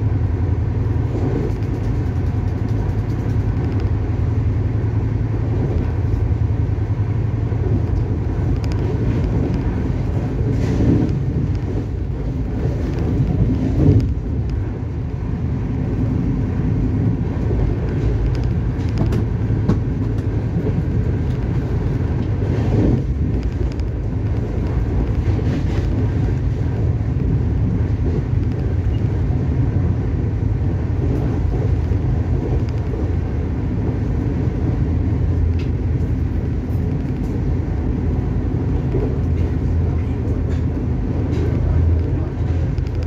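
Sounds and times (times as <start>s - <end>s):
train rumbling at speed: 0.0s - 43.0s.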